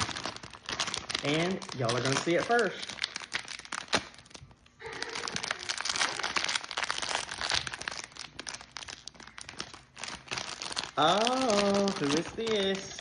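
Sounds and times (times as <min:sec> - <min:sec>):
crinkly plastic packaging opened: 0:00.0 - 0:13.0.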